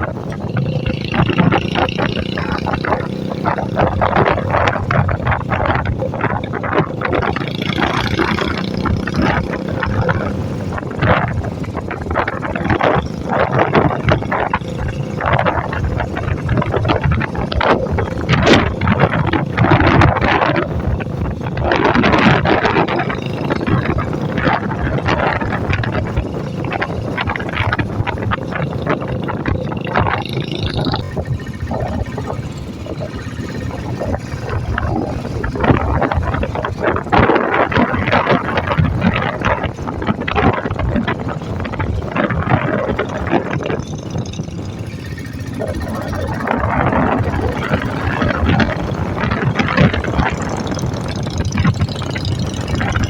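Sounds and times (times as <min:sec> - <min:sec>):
motorcycle engine cruising: 0:00.0 - 0:53.0
wind buffeting microphone: 0:00.0 - 0:53.0.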